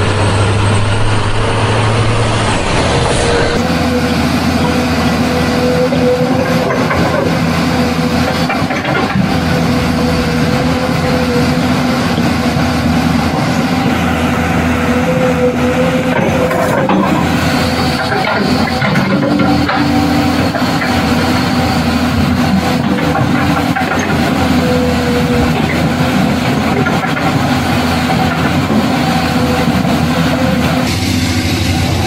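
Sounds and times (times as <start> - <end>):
truck engine running steadily: 0.0 - 32.0.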